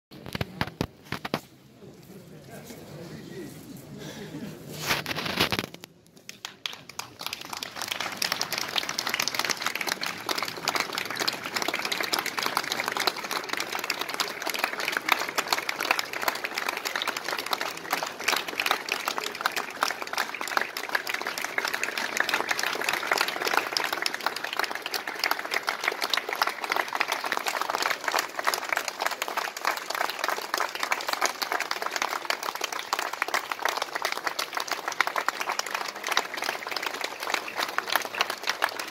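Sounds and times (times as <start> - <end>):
crowd applauding: 6.2 - 38.9.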